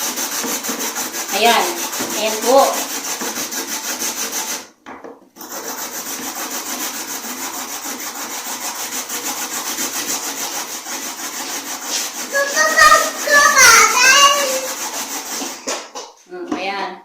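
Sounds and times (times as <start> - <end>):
carrot grating on grater: 0.0 - 4.7, 5.4 - 15.9.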